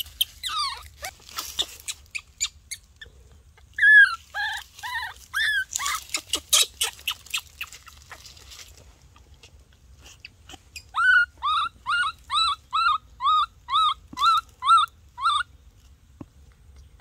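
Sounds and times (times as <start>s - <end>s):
baby monkey crying: 0.0s - 8.3s, 10.0s - 15.5s.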